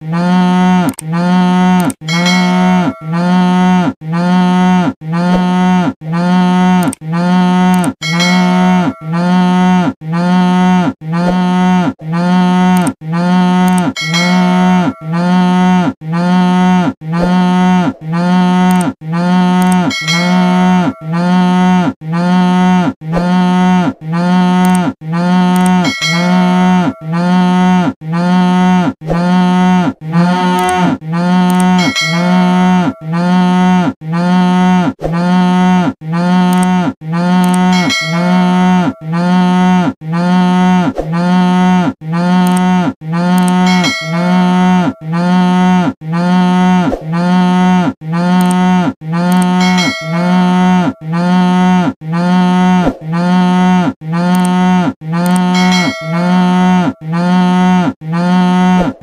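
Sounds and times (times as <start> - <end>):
cow mooing: 0.0 - 59.0.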